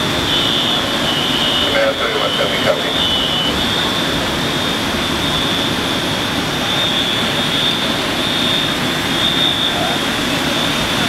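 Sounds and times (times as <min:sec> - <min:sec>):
constant high whine: 0:00.0 - 0:11.0
fire engine drone: 0:00.0 - 0:11.0.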